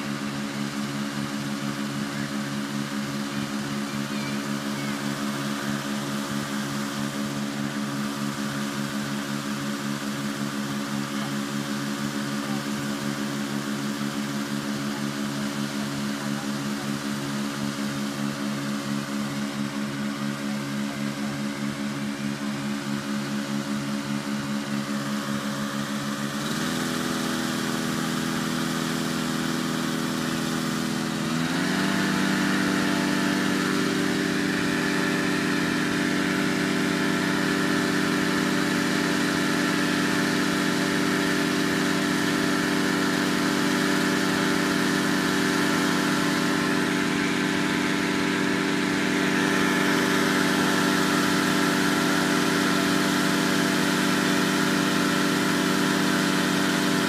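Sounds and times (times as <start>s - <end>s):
engine-driven fan running: 0.0s - 57.0s.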